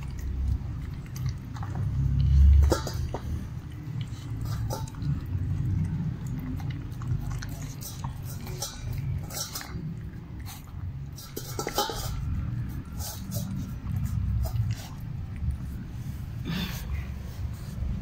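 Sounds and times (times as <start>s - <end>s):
puppy chewing and licking: 0.0s - 18.0s.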